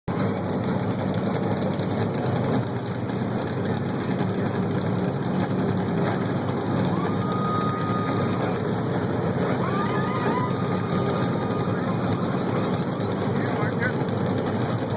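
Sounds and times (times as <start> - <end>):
race car engines idling: 0.1 - 14.9.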